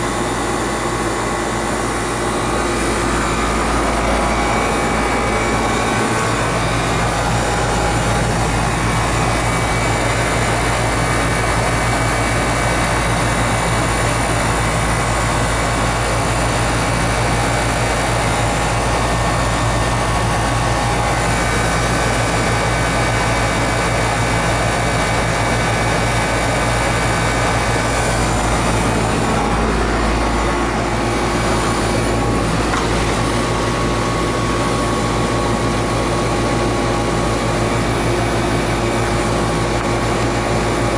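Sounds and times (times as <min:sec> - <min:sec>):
heating equipment humming: 0:00.0 - 0:40.9.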